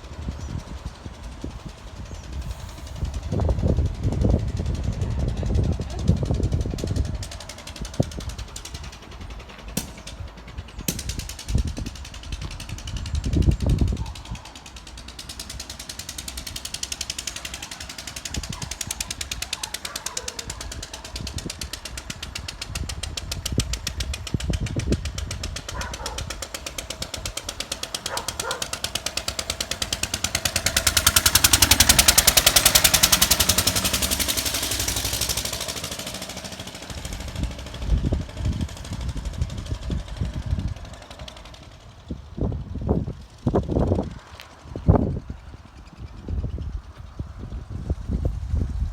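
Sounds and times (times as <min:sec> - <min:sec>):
stationary engine running: 0:00.0 - 0:47.2.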